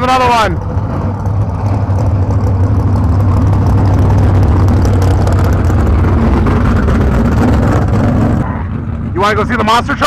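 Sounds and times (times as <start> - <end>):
large vehicle engine running: 0.0 - 10.0.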